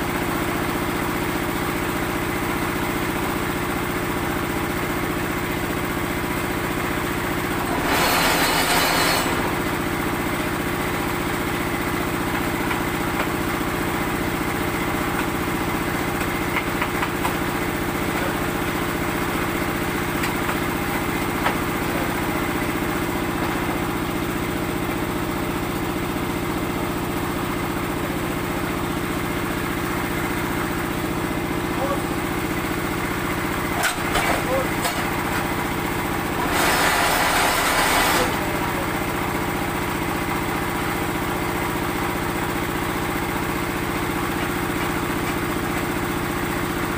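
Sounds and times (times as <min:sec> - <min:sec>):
small engine running: 0:00.1 - 0:46.9.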